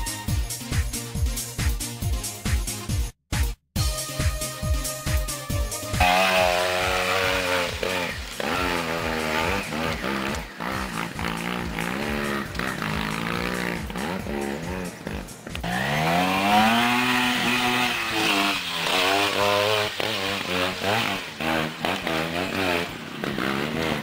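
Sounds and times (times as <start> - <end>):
motorcycle engine revving: 4.6 - 24.0.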